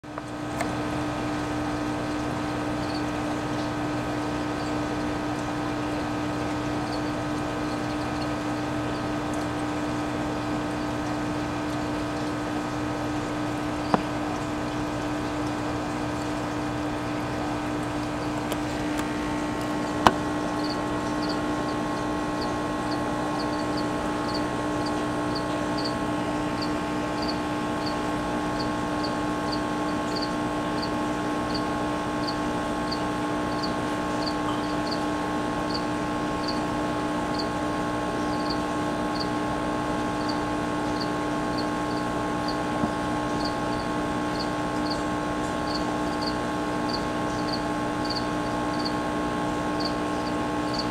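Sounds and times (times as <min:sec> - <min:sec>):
steady mechanical hum: 0:00.0 - 0:50.9.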